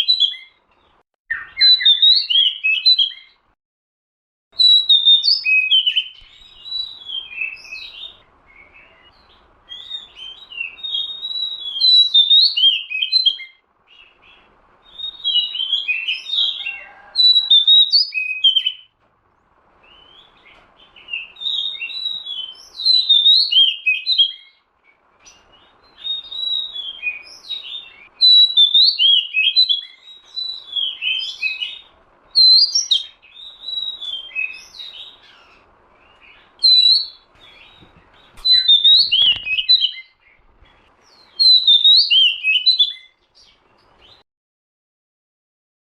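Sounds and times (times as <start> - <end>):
songbird whistling and chirping: 0.0 - 0.6, 1.3 - 3.4, 4.6 - 18.9, 19.8 - 44.2.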